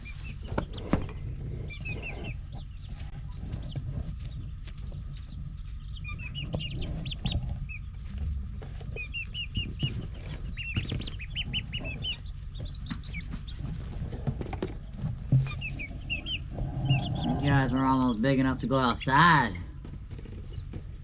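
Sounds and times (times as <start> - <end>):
chicks peeping: 0.0 - 21.0
low steady hum: 0.0 - 21.0.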